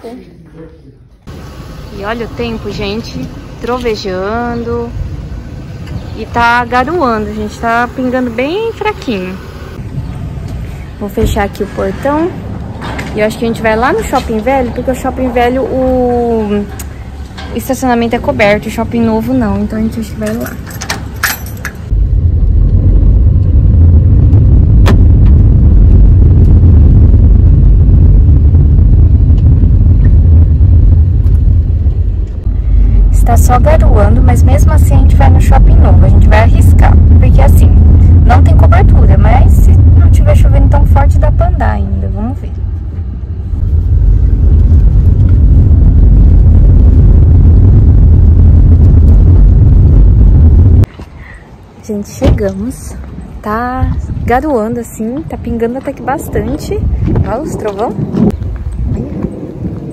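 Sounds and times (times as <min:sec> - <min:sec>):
car road and engine rumble: 0:01.2 - 0:59.9.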